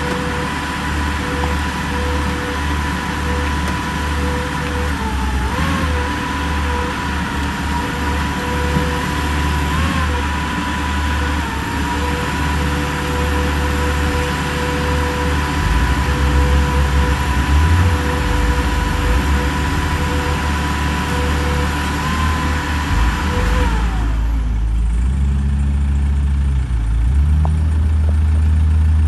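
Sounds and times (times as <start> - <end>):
high hydraulic whine: 0.0 - 25.3
heavy engines running: 0.0 - 29.0.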